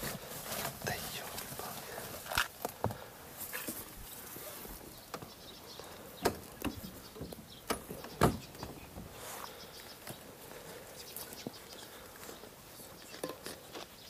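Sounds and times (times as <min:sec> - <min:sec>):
faint rustling: 0:00.0 - 0:13.9.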